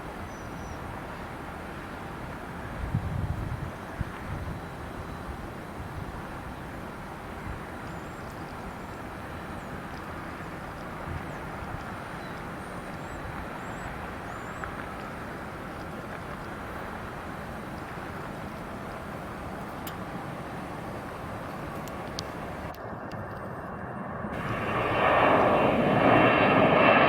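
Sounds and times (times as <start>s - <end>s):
distant jet engines roaring: 0.0s - 27.0s.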